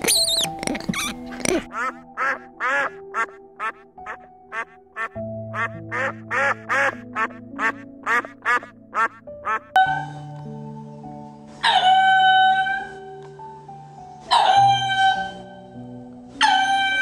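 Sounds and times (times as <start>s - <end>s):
gentle instrumental music: 0.0s - 17.0s.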